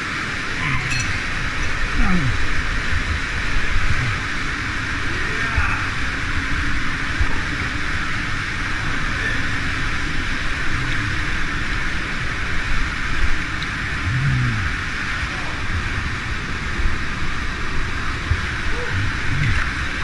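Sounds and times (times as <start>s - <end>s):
stream water rushing through rocks: 0.0s - 20.0s.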